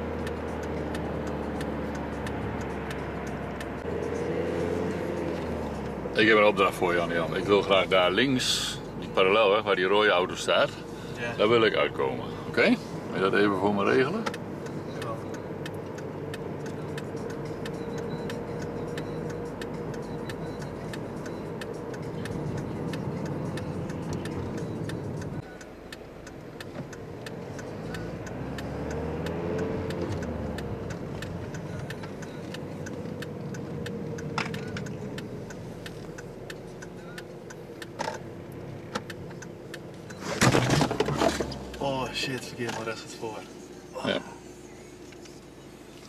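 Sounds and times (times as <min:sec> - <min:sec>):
car engine: 0:00.0 - 0:46.0
road noise: 0:00.0 - 0:46.0
turn indicator ticking: 0:00.0 - 0:46.0.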